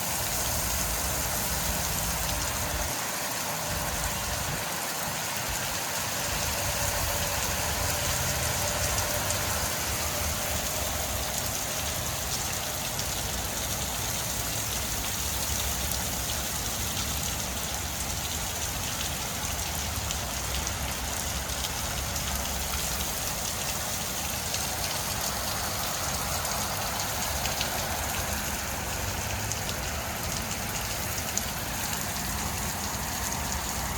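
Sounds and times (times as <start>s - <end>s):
steady rain pouring: 0.0s - 33.9s.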